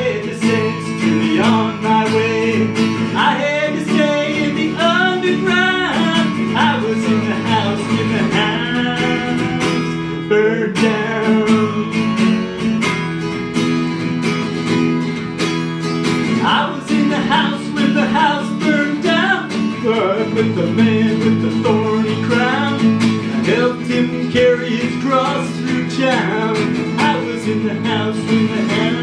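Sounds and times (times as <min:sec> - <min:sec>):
man singing: 0:00.0 - 0:12.8, 0:16.2 - 0:29.0
acoustic guitar strumming: 0:00.0 - 0:29.0.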